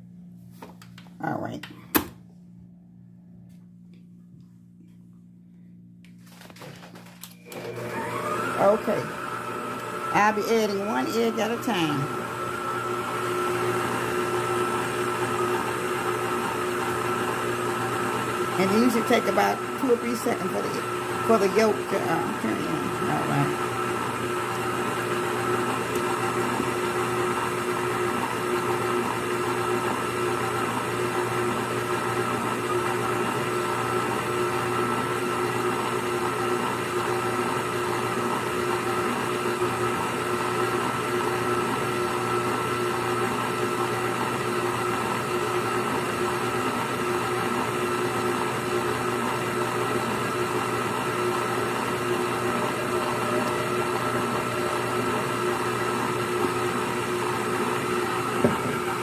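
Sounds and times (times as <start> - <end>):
electric mixer beating batter: 7.5 - 59.0.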